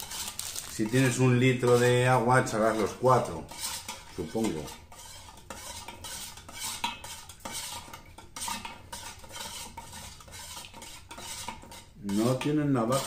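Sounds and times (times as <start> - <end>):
metal spoon stirring in metal cup: 0.0 - 13.0.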